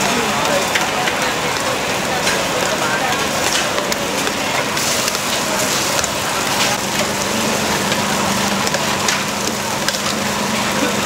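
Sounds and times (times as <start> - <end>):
food sizzling in hot oil: 0.0 - 11.0
oil crackles and pops: 0.0 - 11.0.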